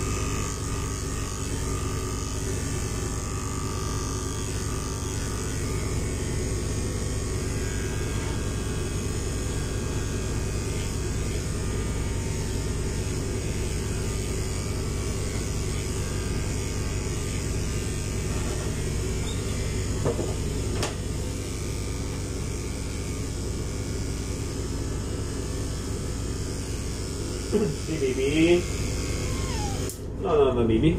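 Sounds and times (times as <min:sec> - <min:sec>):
electric pet clipper running: 0:00.0 - 0:30.6.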